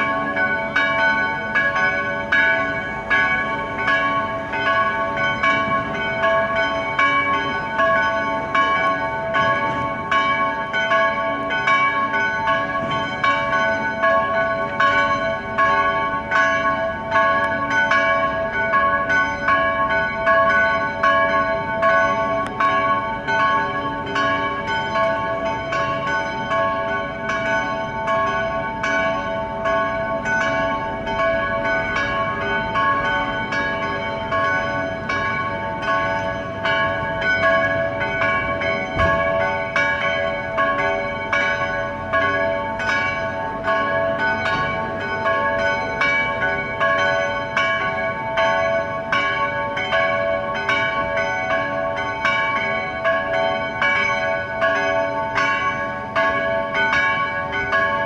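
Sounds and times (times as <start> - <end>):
church bells pealing: 0.0 - 58.0.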